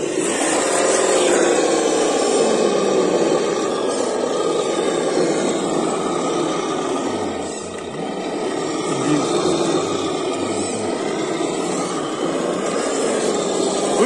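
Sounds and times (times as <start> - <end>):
electric motor and gears whirring: 0.0 - 14.0.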